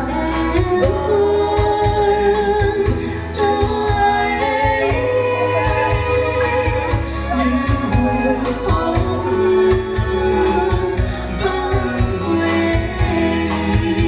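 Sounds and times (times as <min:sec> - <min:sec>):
band with bass beat: 0:00.0 - 0:14.0
woman singing: 0:00.0 - 0:14.0.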